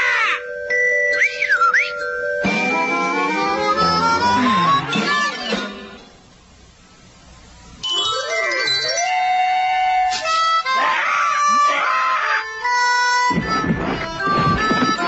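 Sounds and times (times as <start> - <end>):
cartoon background music: 0.0 - 6.0, 7.8 - 15.0.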